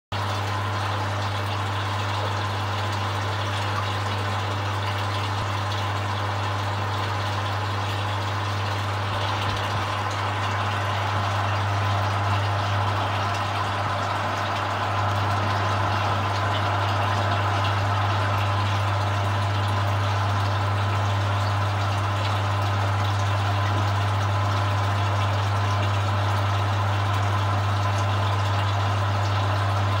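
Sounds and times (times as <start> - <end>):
pump humming underwater: 0.1 - 30.0.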